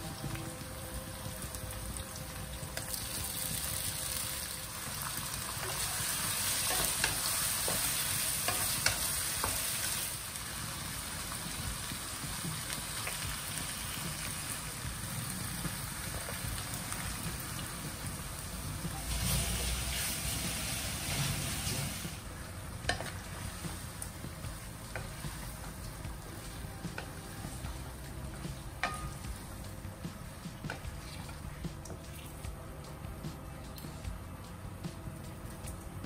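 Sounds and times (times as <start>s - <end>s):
food sizzling in hot oil: 0.0s - 32.5s.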